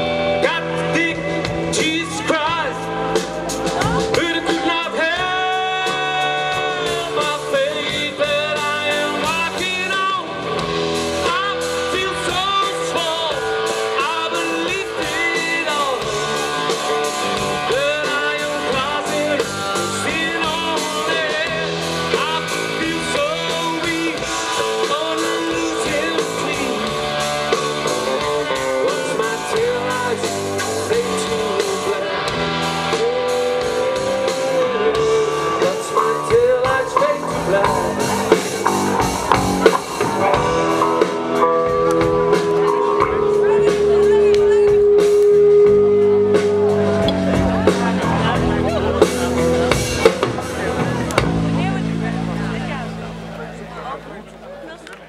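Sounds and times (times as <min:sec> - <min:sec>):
person singing: 0:00.0 - 0:53.0
guitar: 0:00.0 - 0:55.0
rock and roll band playing: 0:00.0 - 0:55.0.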